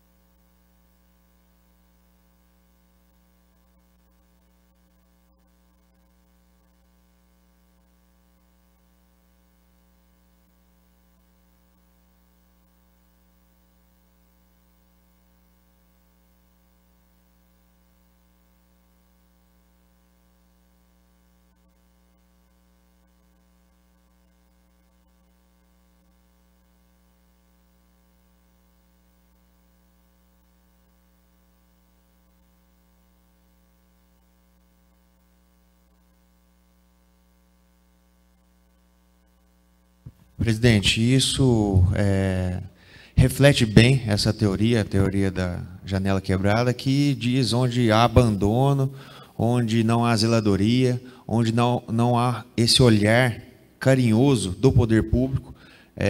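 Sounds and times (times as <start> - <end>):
faint electrical hum: 0.0 - 56.0.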